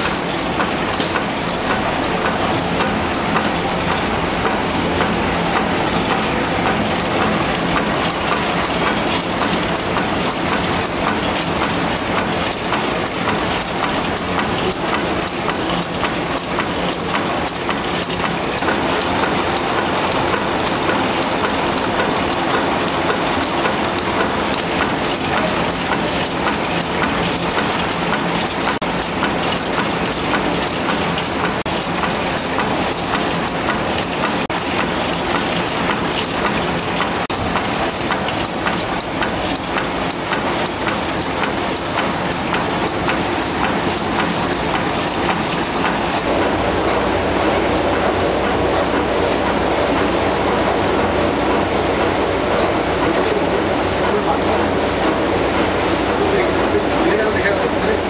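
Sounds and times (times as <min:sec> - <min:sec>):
printing press clattering: 0:00.0 - 0:58.0.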